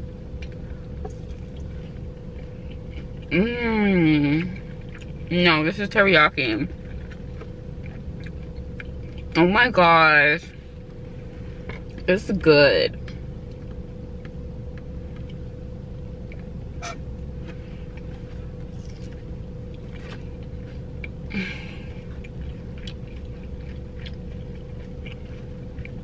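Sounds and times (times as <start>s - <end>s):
constant hum: 0.0s - 26.0s
low rumble: 0.0s - 26.0s.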